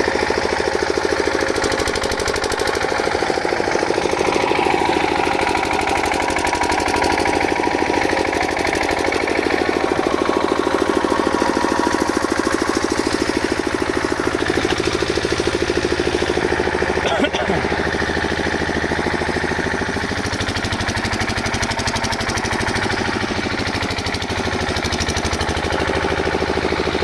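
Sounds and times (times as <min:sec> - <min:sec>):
machine with pulsing rattle: 0:00.0 - 0:27.0.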